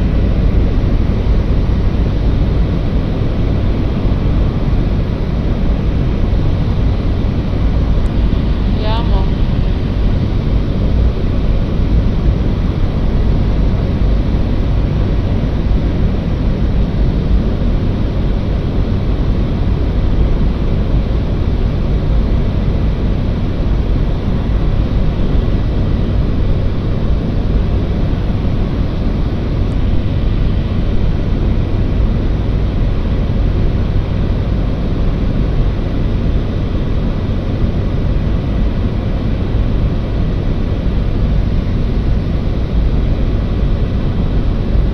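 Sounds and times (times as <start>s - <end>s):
propeller aircraft drone: 0.0s - 44.9s.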